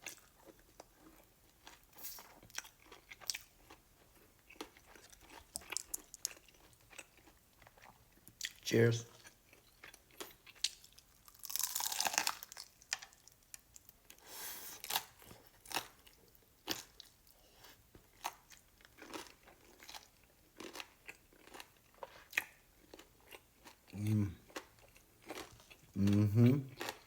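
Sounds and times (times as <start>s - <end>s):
crunchy bites of fried chicken: 0.0s - 8.6s, 9.2s - 17.2s, 18.0s - 23.9s.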